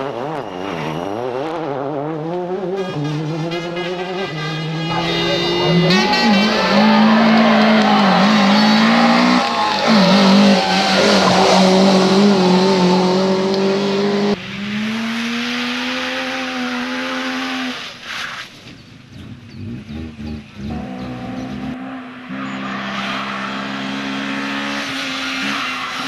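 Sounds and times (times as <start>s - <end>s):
racing car engine at high revs: 0.0s - 18.4s, 19.4s - 26.0s.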